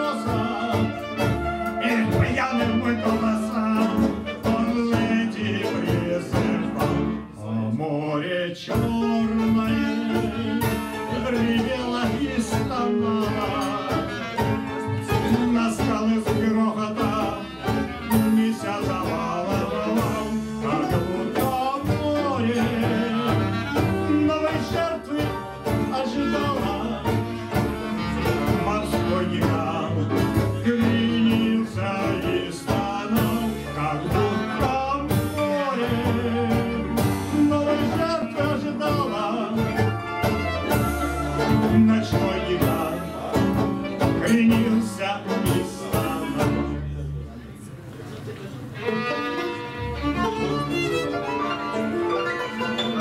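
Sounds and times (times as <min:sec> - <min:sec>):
man singing: 0:00.0 - 0:46.9
tango band playing: 0:00.0 - 0:53.0.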